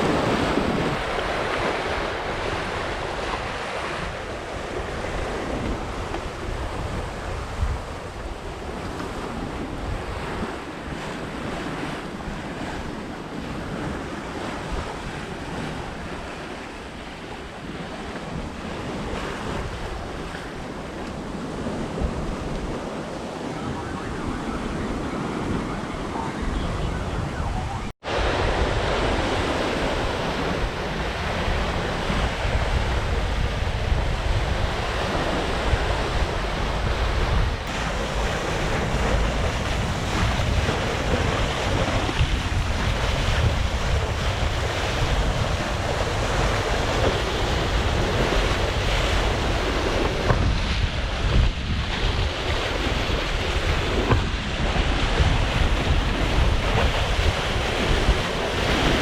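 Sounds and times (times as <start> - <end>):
waves rushing along hull: 0.0 - 59.0
wind buffeting microphone: 0.0 - 59.0.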